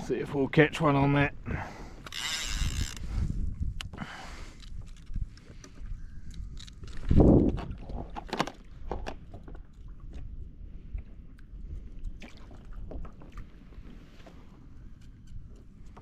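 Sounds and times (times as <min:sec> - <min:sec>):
water sloshing against hull: 0:00.0 - 0:16.0.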